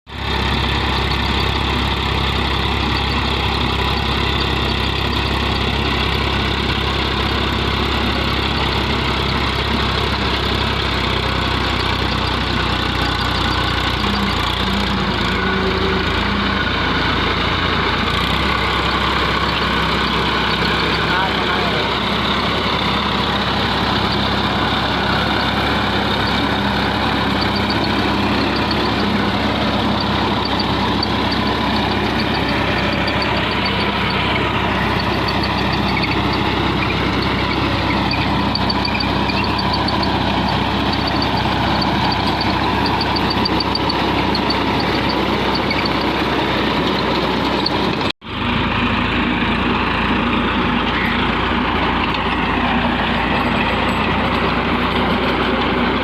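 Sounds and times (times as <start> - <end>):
tractor diesel engine running: 0.1 - 56.0.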